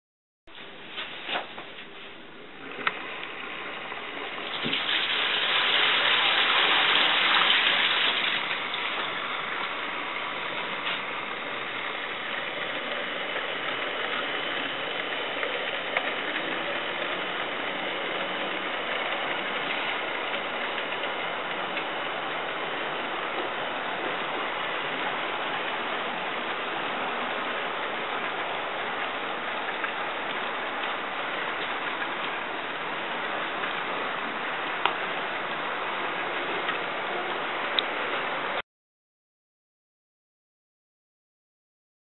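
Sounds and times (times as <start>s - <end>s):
model train wheels rattling on rail: 2.6s - 37.8s.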